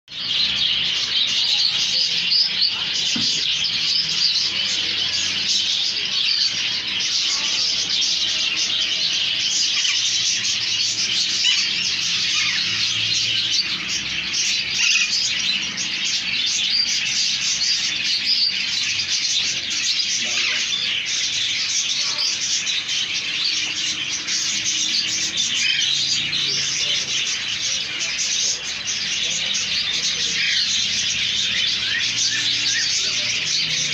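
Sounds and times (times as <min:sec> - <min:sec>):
parakeets chirping and chattering: 0:00.1 - 0:33.9.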